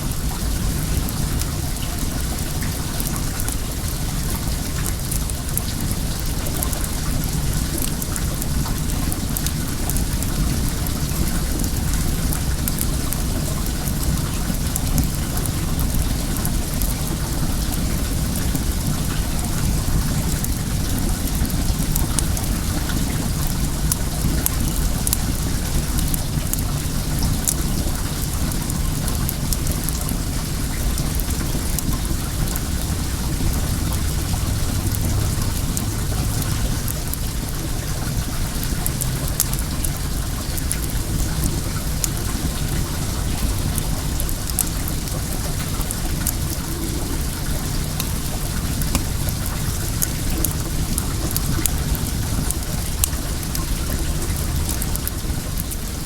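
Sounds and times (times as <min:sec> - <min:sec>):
running water rushing: 0:00.0 - 0:56.0
wood fire crackling: 0:00.0 - 0:56.0.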